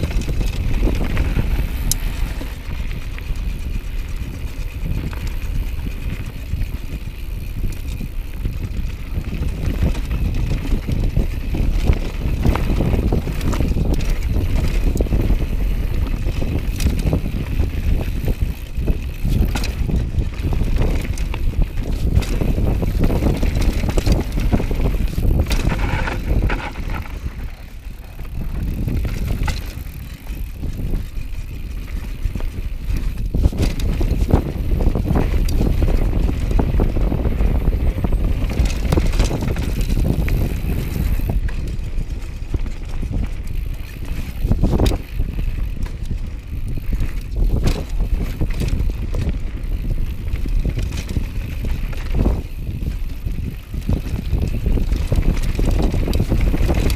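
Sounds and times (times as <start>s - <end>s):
bike knocking and rattling: 0.0s - 56.9s
bike tyres crunching over gravel: 0.0s - 56.9s
wind buffeting microphone: 0.0s - 56.9s.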